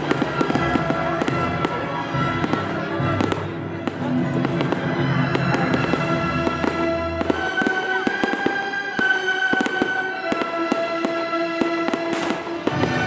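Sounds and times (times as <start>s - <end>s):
fireworks bursting and crackling: 0.0s - 13.0s
music with held notes: 0.0s - 13.0s.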